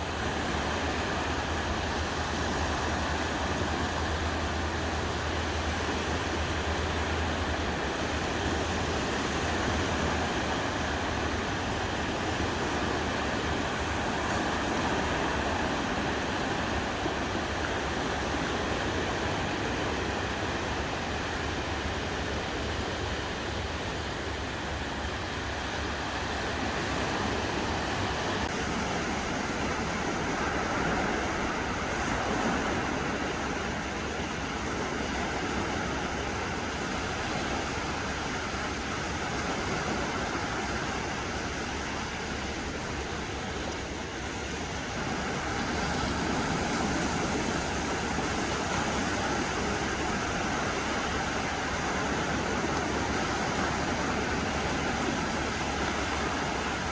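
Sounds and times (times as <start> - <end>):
sea waves washing onto sand: 0.0 - 56.9
wind: 0.0 - 56.9.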